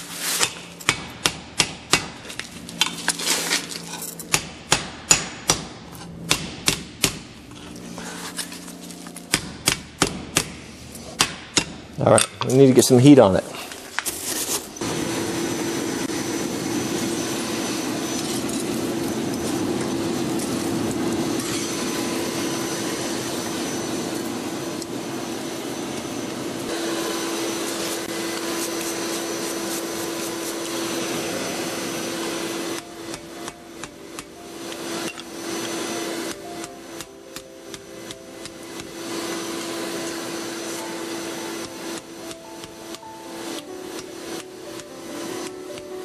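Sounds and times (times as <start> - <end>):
forge air blower humming: 0.0 - 46.0.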